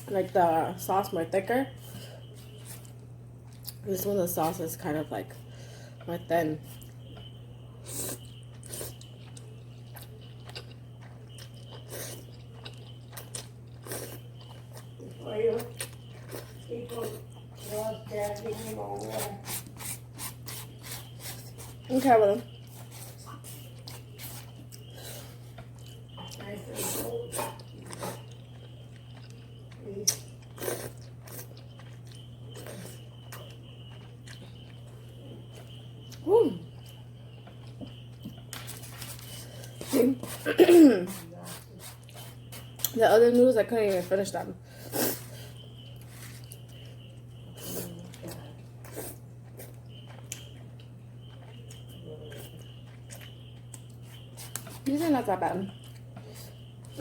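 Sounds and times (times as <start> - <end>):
steady low hum: 0.0 - 57.0
person chewing noodles: 1.9 - 3.8, 5.9 - 43.0, 44.7 - 54.9.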